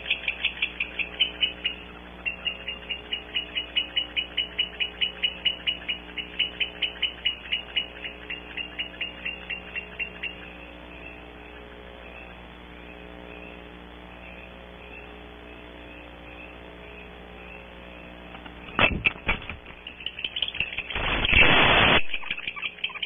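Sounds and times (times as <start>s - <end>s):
owls twittering: 0.0s - 18.2s, 18.9s - 23.0s
faint electrical hum: 0.0s - 23.0s.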